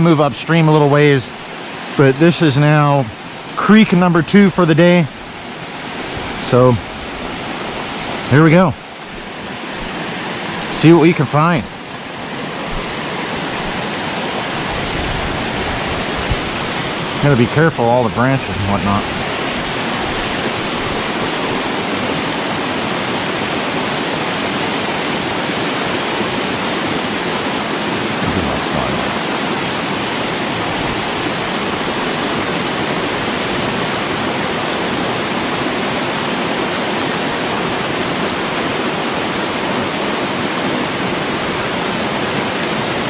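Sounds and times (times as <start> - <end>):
creek water rushing and splashing: 0.0 - 43.0.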